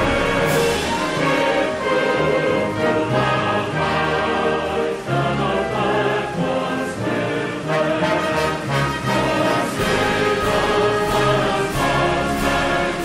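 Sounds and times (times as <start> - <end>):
concert band sustained chords: 0.0 - 13.0.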